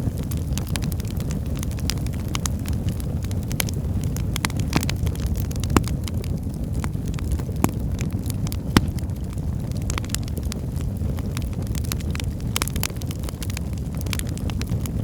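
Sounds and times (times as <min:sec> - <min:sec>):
fire rumbling: 0:00.0 - 0:15.0
firewood crackling and snapping: 0:00.0 - 0:15.0
loud fire pops: 0:00.0 - 0:15.0.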